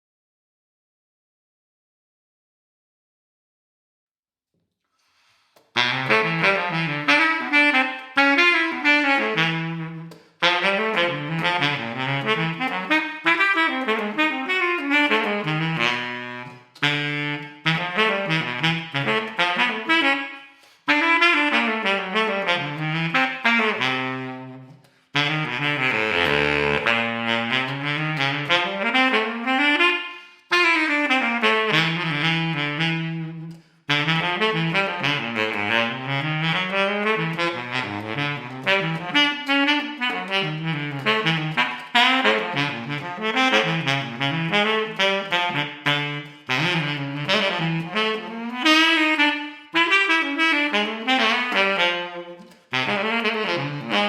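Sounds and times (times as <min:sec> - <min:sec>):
baritone saxophone playing jazz: 0:05.6 - 0:54.0.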